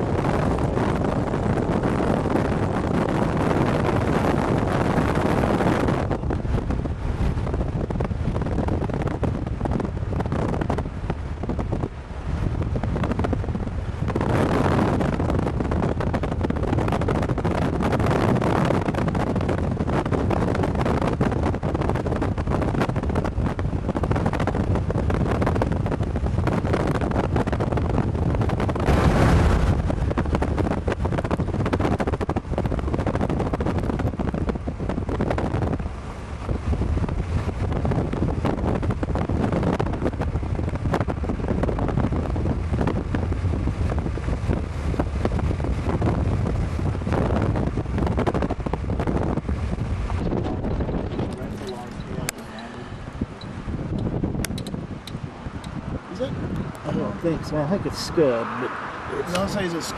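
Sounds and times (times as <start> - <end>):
car road noise: 0.0 - 59.9
gusty wind over microphone: 0.0 - 59.9.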